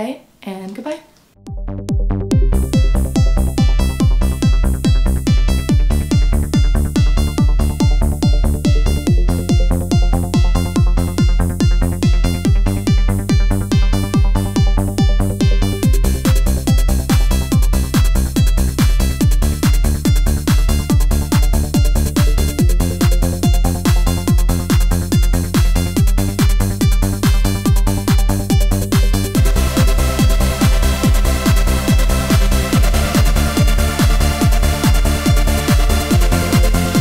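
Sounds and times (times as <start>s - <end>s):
electronic dance music: 2.3s - 37.0s.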